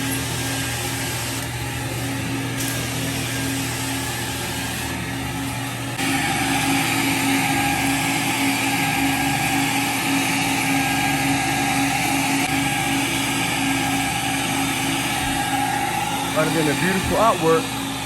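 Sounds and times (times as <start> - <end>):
cleaning machine motor humming: 0.0 - 18.0.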